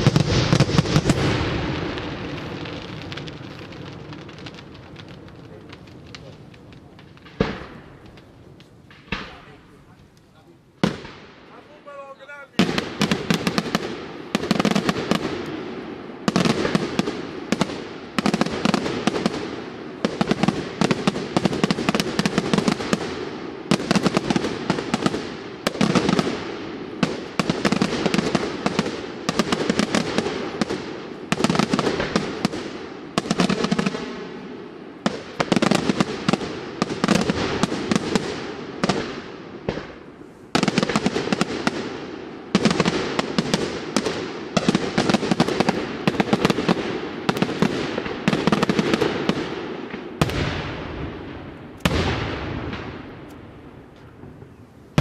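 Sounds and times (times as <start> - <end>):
fireworks bursts and bangs: 0.0 - 55.0.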